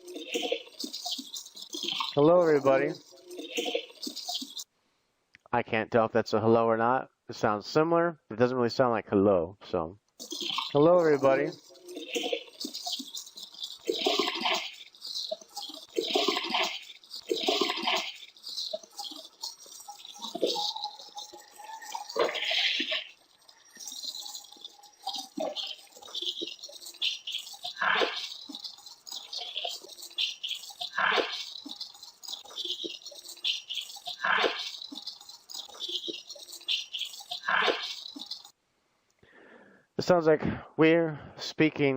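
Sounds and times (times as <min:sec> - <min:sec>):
garbled filtered voice: 0:00.0 - 0:04.7, 0:05.5 - 0:38.5.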